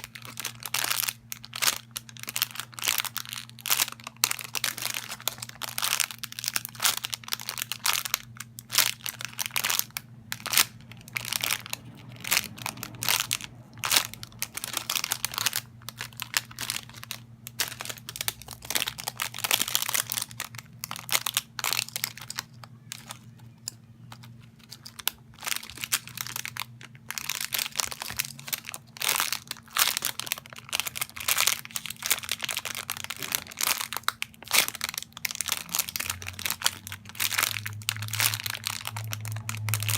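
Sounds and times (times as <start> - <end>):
faint steady hum: 0.0 - 39.9
plastic toy crinkling: 0.0 - 39.9.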